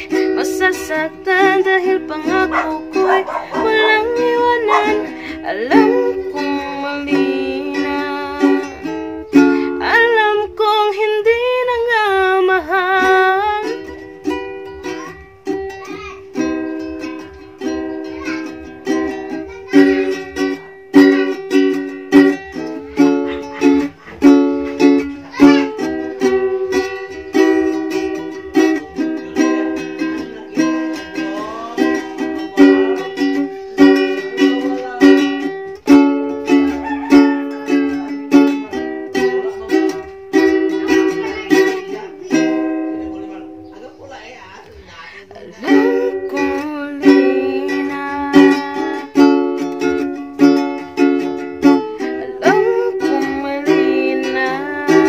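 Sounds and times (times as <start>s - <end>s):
ukulele strumming chords: 0.0s - 55.0s.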